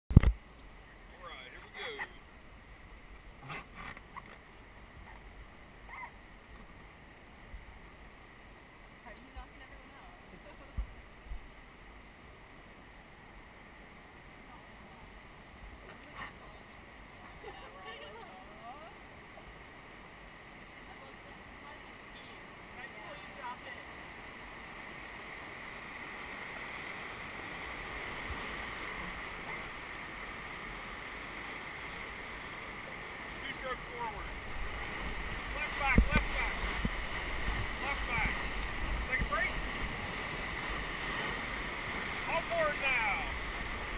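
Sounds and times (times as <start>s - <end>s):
river water rushing: 0.4s - 43.9s.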